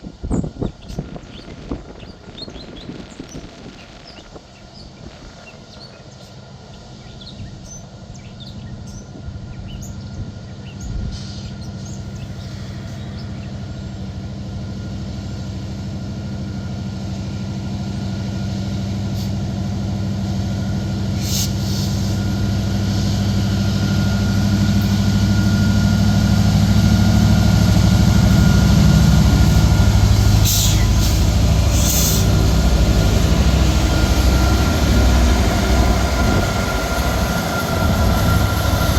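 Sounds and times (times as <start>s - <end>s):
diesel locomotive engines: 0.0s - 38.9s.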